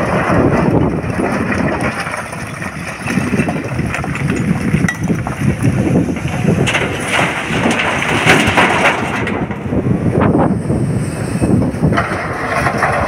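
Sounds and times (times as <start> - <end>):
rocks pouring into truck body: 0.0 - 9.7, 11.9 - 13.0.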